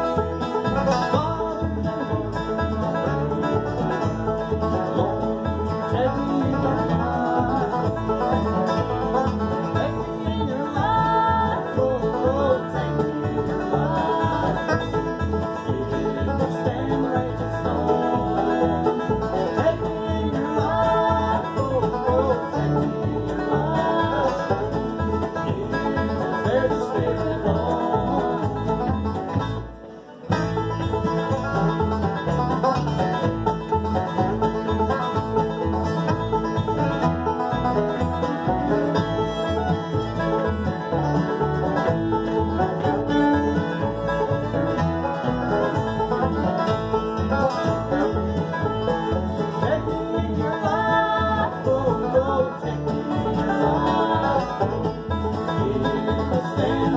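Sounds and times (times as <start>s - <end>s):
acoustic guitar: 0.0s - 56.9s
banjo: 0.0s - 56.9s
fiddle: 0.0s - 56.9s
upright bass: 0.0s - 56.9s.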